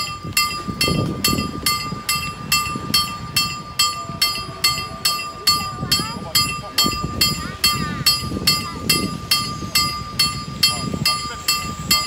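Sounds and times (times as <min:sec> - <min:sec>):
level-crossing warning bell: 0:00.0 - 0:12.0.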